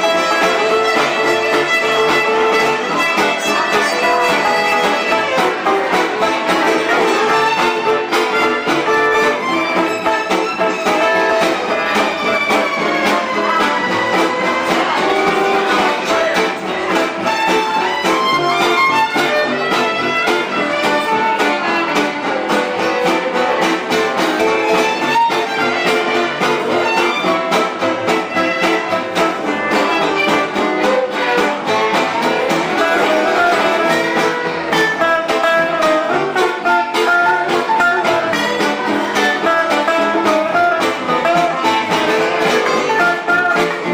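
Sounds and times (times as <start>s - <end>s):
live band music: 0.0s - 43.9s.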